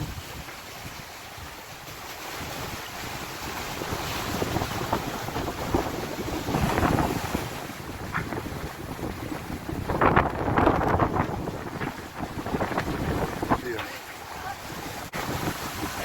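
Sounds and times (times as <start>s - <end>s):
sea water rushing against hull: 0.0s - 16.0s
wind buffeting microphone: 0.0s - 16.0s.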